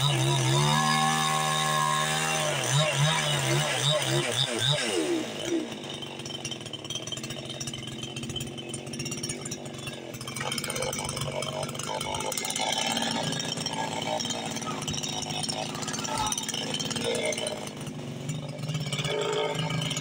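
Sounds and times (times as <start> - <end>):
chainsaw engine idling: 0.0 - 20.0
chainsaw engine revving: 0.0 - 20.0.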